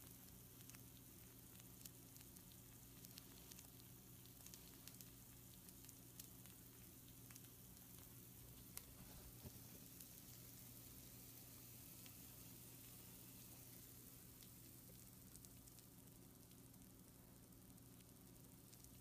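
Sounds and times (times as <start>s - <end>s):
food sizzling on baking tray: 0.0s - 19.0s
low steady hum: 0.0s - 19.0s.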